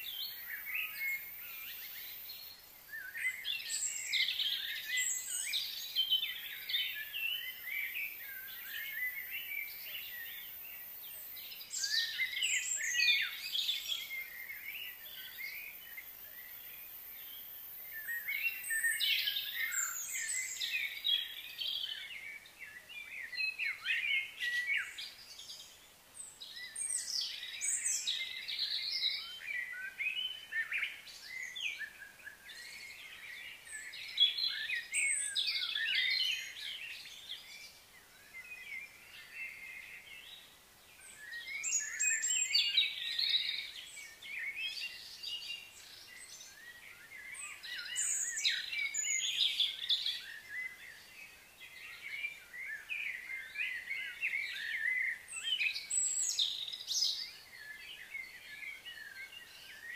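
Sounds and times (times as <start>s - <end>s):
birds chirping and singing: 0.0s - 59.9s.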